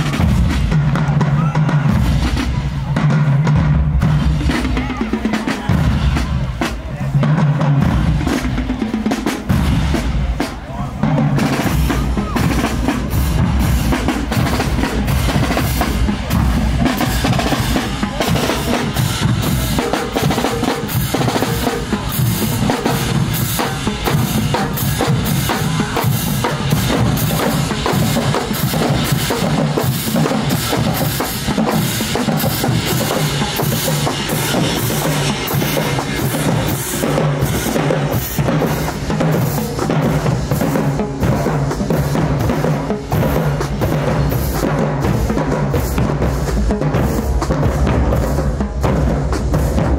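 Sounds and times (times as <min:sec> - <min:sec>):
bass drums: 0:00.0 - 0:49.9
cymbals: 0:00.0 - 0:49.9
snare drums: 0:00.0 - 0:49.9.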